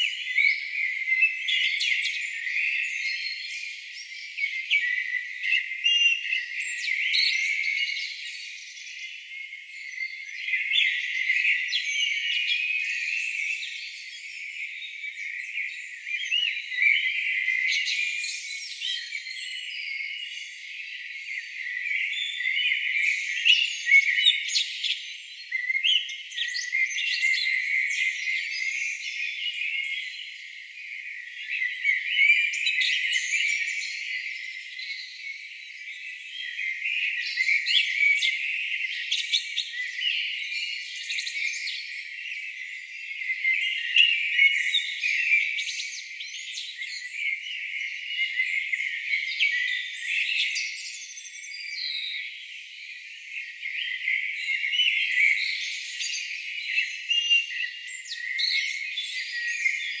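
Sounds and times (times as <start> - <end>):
chorus of songbirds: 0.0 - 60.0.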